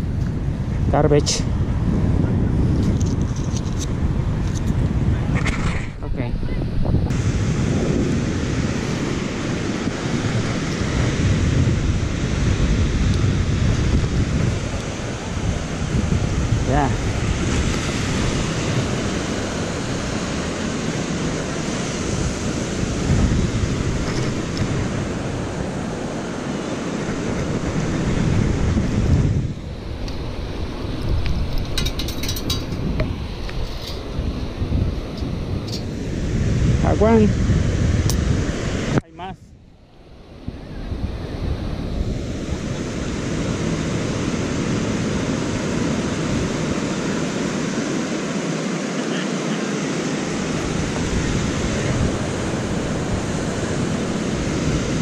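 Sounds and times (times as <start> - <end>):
wind buffeting microphone: 0.0 - 48.8, 49.8 - 55.0
beach surf: 0.0 - 55.0.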